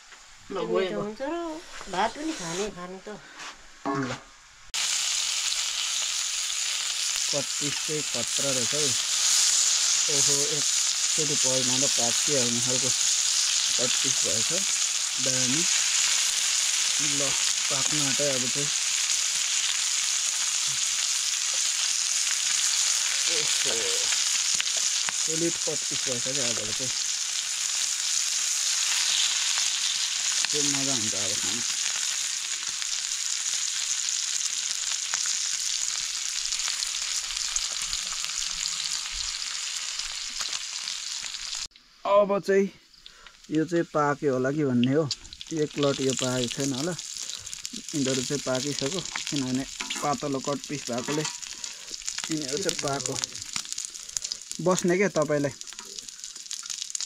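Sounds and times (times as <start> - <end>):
meat sizzling in a pan: 4.7 - 41.7, 42.9 - 57.0.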